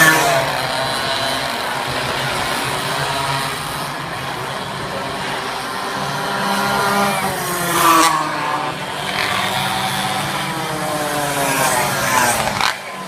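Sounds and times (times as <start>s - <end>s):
minibike engines revving past: 0.0s - 13.0s.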